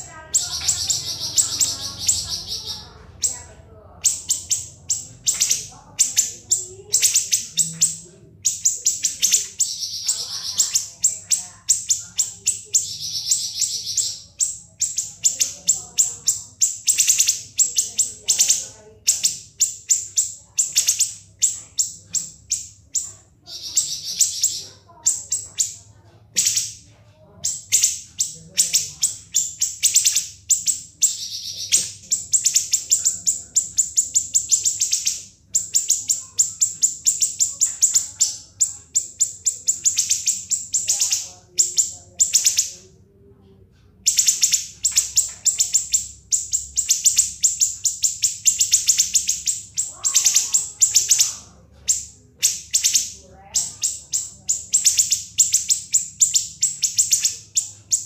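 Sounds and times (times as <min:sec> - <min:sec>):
songbird singing rapid trills: 0:00.0 - 0:26.8, 0:27.4 - 0:42.9, 0:44.0 - 0:58.0.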